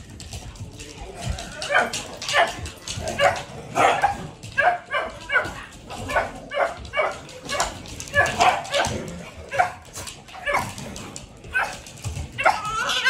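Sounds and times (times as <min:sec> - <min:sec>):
dogs barking and yipping: 0:01.2 - 0:13.0.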